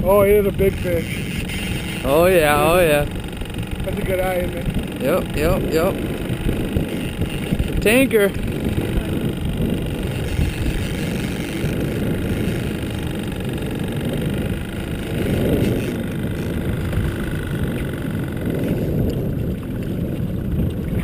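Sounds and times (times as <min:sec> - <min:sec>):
boat engine low rumble: 0:00.0 - 0:21.0.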